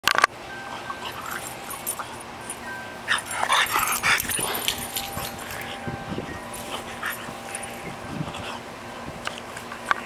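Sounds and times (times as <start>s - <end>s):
dog chewing on a stick: 0.7s - 10.0s.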